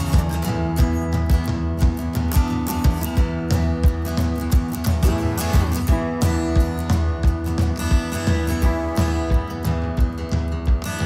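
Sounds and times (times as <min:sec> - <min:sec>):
instrumental music with plucked strings: 0:00.0 - 0:11.0.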